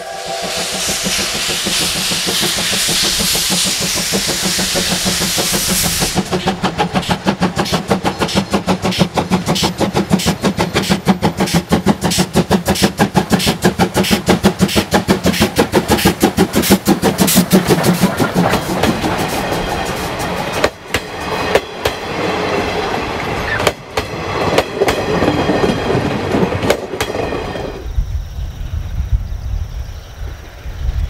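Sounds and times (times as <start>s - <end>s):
steam locomotive chuffing: 0.0s - 27.9s
train wheel noise: 0.0s - 29.6s.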